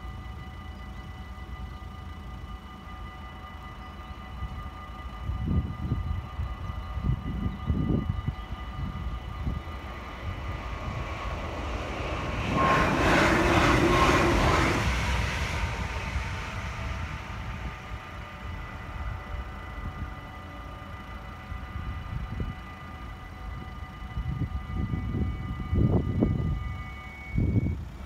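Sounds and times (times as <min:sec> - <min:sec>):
electric train rushing past: 0:00.0 - 0:28.0
level crossing warning bells: 0:00.0 - 0:28.0.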